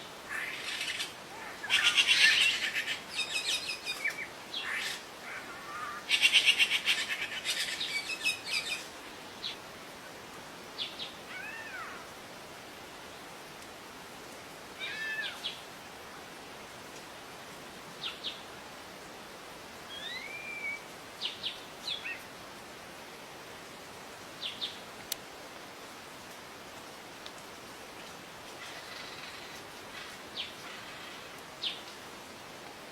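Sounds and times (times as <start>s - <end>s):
faint steady hiss: 0.0s - 32.9s.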